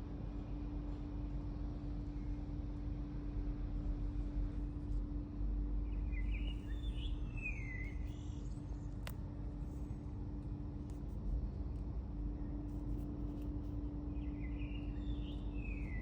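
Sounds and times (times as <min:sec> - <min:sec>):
constant hum: 0:00.0 - 0:16.0
low outdoor rumble: 0:00.0 - 0:16.0.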